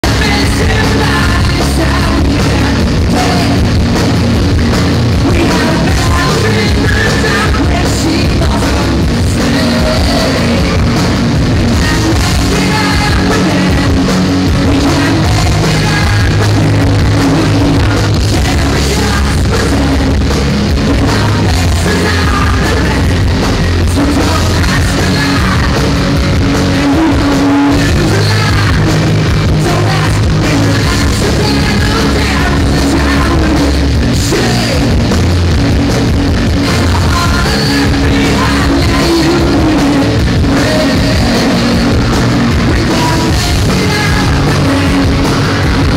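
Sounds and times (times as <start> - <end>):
person singing: 0.0 - 35.2, 36.4 - 45.9
live rock band playing: 0.0 - 45.9.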